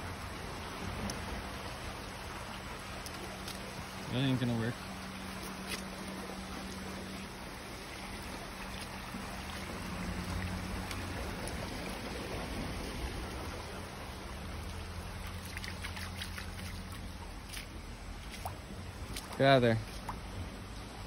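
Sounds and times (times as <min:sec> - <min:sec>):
creek water trickling over rock: 0:00.0 - 0:21.0
faint water splashes: 0:00.0 - 0:21.0.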